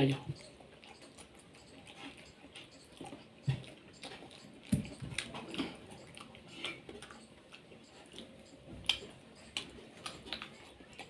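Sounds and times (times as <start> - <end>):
wet chewing and biting: 0.3 - 11.0.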